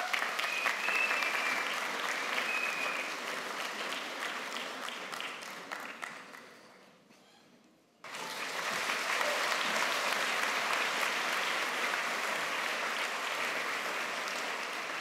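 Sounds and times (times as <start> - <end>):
audience applauding: 0.0 - 6.6, 8.0 - 15.0.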